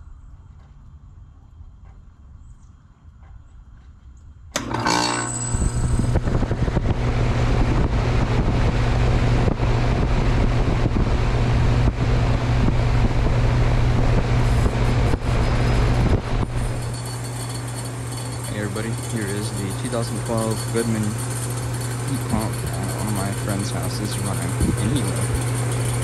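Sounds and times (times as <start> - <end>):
fan air rushing: 0.0 - 26.0
heat pump compressor hum: 3.0 - 26.0.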